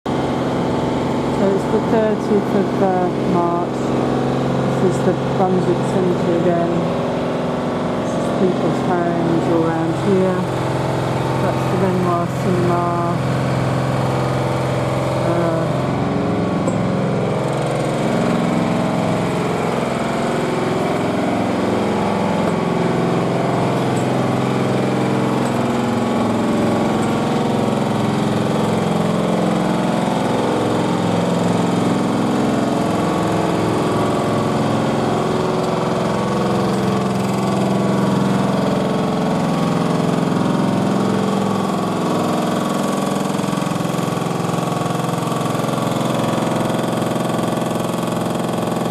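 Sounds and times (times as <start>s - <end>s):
engine drone: 0.1s - 48.9s
jackhammer pounding: 0.1s - 48.9s.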